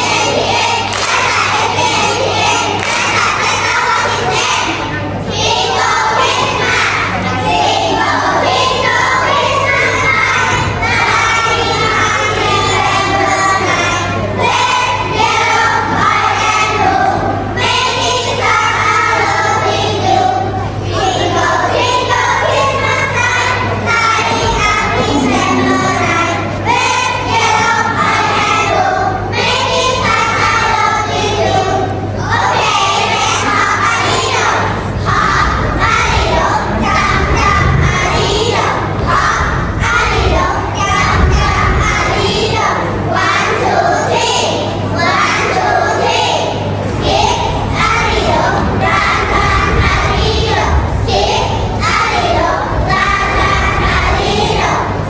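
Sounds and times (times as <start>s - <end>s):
children singing: 0.0s - 55.0s.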